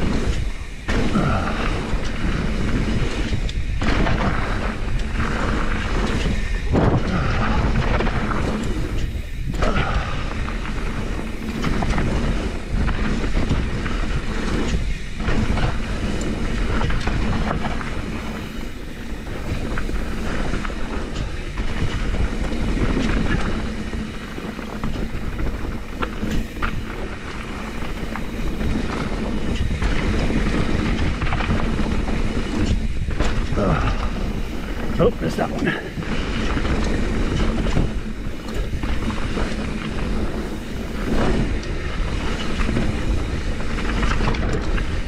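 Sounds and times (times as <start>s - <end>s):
bike chain clattering over bumps: 0.0s - 45.0s
bike tyres on dirt: 0.0s - 45.0s
wind rumble on microphone: 0.0s - 45.0s.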